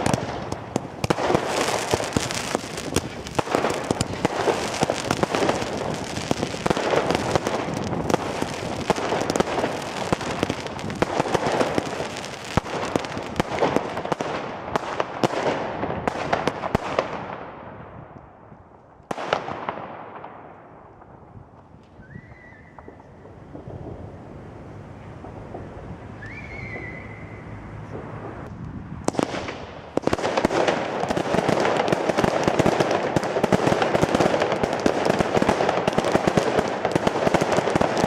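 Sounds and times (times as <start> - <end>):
fireworks bangs: 0.0 - 18.0, 19.1 - 38.0
fireworks crackling: 0.0 - 38.0.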